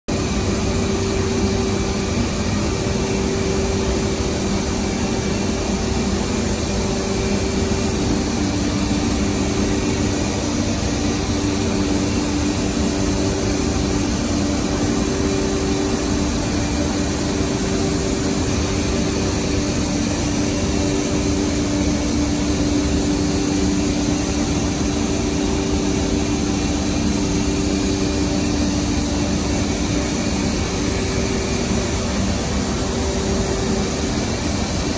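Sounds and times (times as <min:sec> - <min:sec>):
industrial machinery drone: 0:00.1 - 0:34.9.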